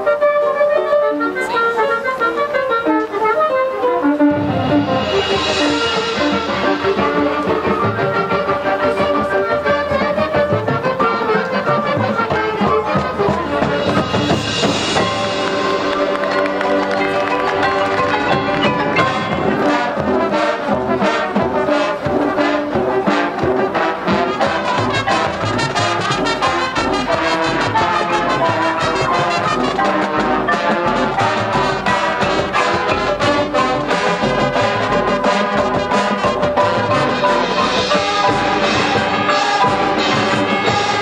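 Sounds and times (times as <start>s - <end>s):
brass chords: 0.0s - 41.0s
marching percussion: 4.2s - 41.0s.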